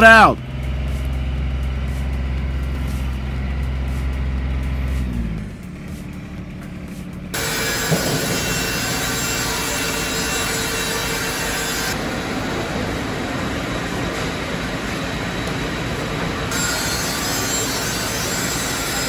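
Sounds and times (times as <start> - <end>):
band sawmill sawing log: 0.0 - 19.0.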